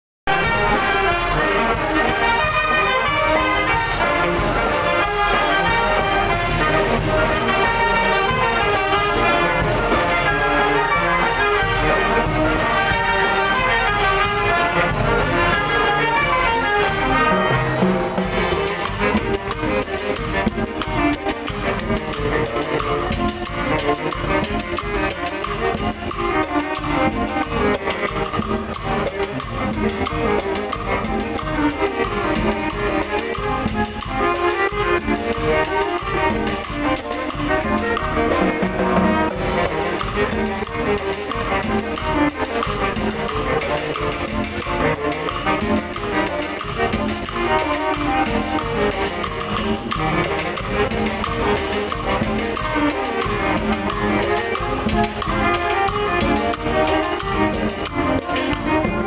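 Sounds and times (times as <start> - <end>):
brass band playing: 0.3 - 59.0
trumpets and trombones: 0.3 - 59.0.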